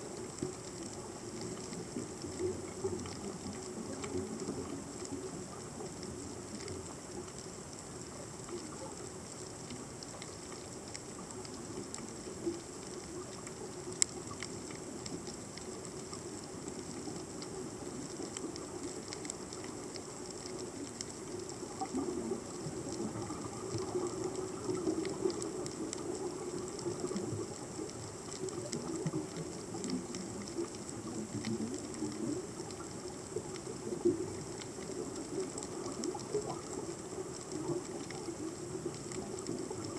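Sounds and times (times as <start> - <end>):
crackle of faint clicks underwater: 0.0 - 39.9.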